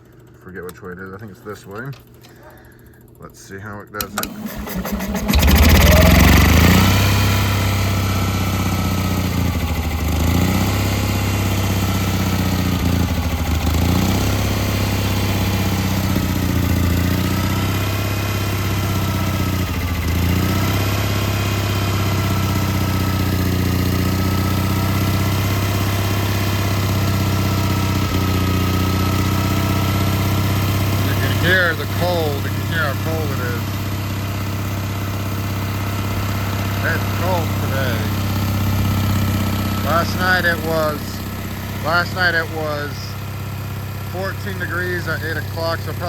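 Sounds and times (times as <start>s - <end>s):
generator engine running unevenly: 4.0s - 46.0s.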